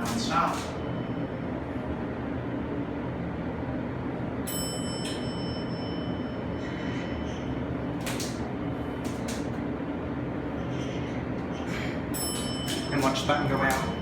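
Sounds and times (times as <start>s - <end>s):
elevator low hum: 0.0s - 14.0s.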